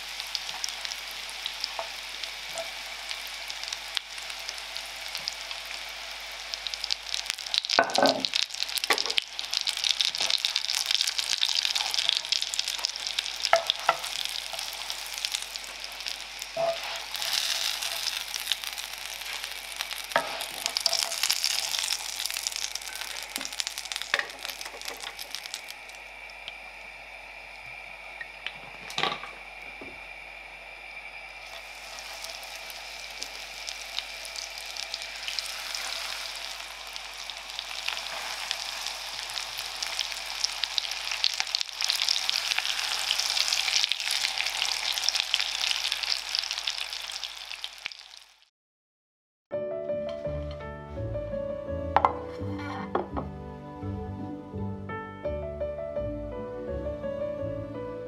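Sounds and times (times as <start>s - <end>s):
food sizzling in hot oil: 0.0s - 48.5s.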